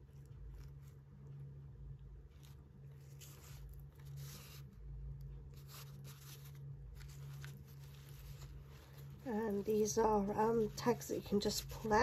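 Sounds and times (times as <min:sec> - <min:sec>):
low hum: 0:00.0 - 0:12.0
paper pages rustling: 0:02.2 - 0:12.0.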